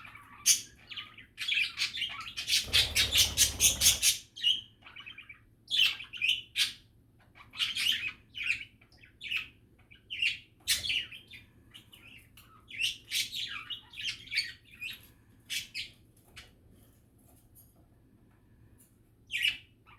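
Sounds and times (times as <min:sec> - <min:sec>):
budgies chattering: 0:00.0 - 0:16.5, 0:19.3 - 0:19.9.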